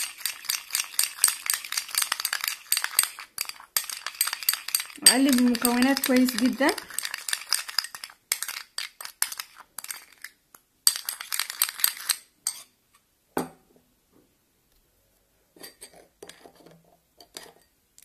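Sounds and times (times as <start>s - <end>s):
spoon stirring in glass bowl: 0.0s - 12.7s, 15.6s - 17.7s.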